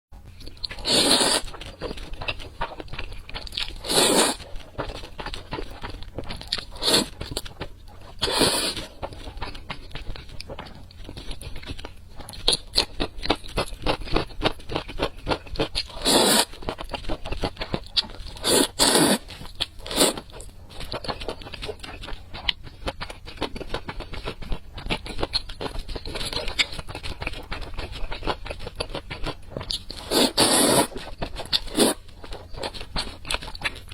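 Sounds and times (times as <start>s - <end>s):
crunching and chewing crisp food: 0.2s - 33.9s.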